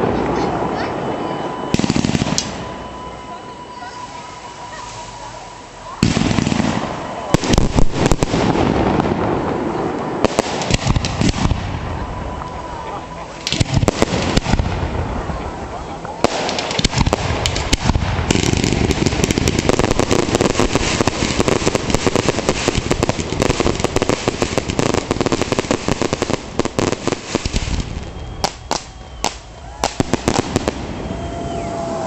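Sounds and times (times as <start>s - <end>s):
fireworks crackling and banging: 0.0s - 32.0s.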